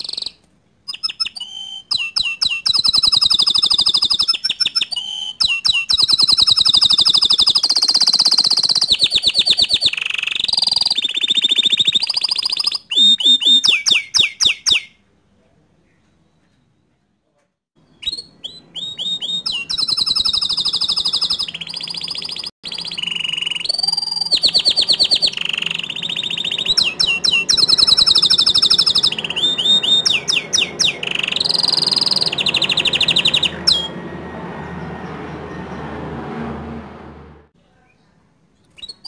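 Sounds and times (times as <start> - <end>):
canary singing trills: 0.0 - 15.0, 17.8 - 35.9, 38.6 - 39.0.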